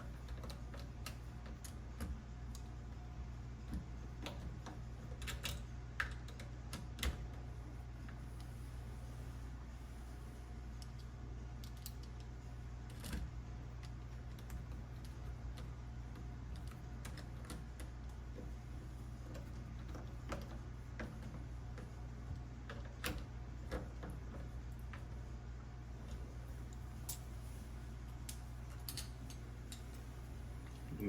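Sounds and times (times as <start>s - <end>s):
washing machine hum: 0.0s - 31.0s.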